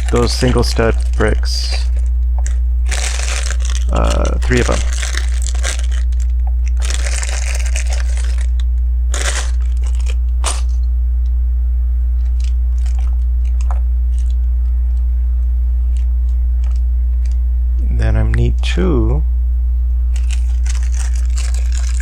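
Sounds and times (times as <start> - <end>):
plastic crinkling: 0.0 - 10.9, 12.2 - 17.4, 20.1 - 22.0
low electrical hum: 0.0 - 22.0.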